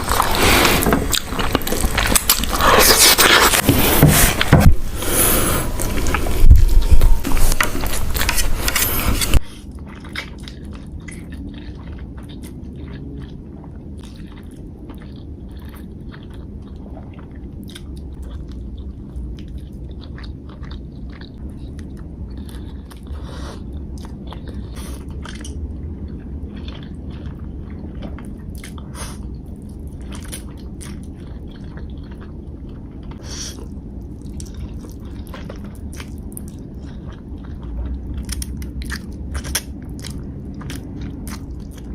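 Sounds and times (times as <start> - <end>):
person chewing noodles: 0.0 - 41.9.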